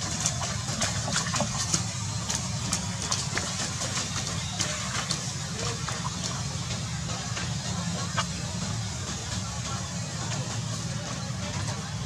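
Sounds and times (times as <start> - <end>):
monkeys splashing in puddle: 0.0 - 9.7
steady low hum: 0.0 - 12.0.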